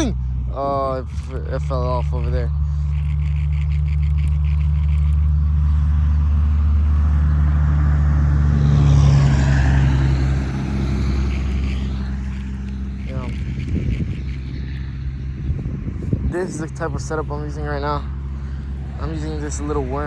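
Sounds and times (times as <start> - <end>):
low engine hum: 0.0 - 20.0
vehicle passing: 0.0 - 20.0.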